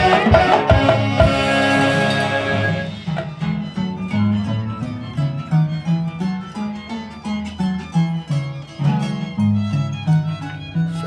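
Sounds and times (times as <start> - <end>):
violin melody: 0.0 - 11.0.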